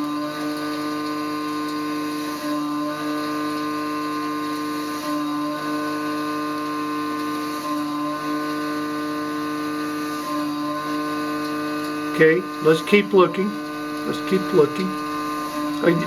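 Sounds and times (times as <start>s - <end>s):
milling machine whine: 0.0s - 16.0s.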